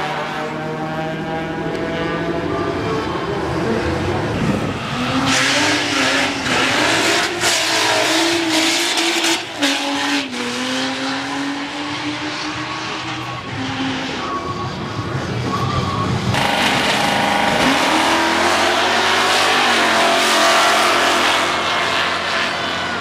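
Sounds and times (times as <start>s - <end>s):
drag cars accelerating at full throttle: 0.0s - 23.0s.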